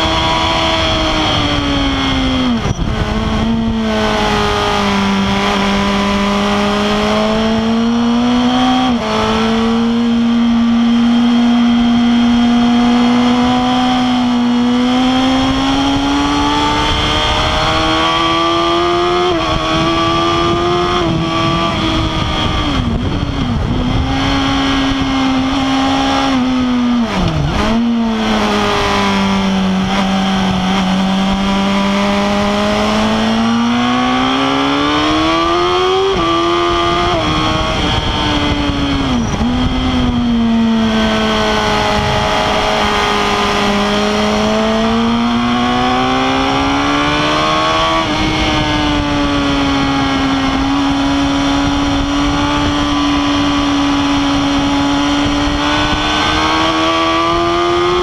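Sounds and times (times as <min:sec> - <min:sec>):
motorcycle engine at speed: 0:00.0 - 0:58.0
wind rushing: 0:00.0 - 0:58.0.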